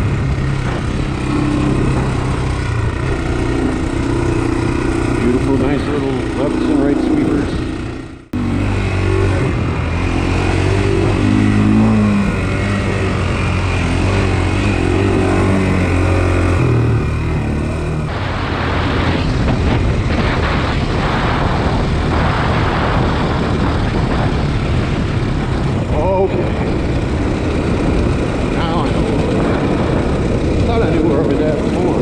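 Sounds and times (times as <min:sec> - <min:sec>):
atv engine running: 0:00.0 - 0:32.0
rough rushing noise with pulses: 0:00.0 - 0:32.0.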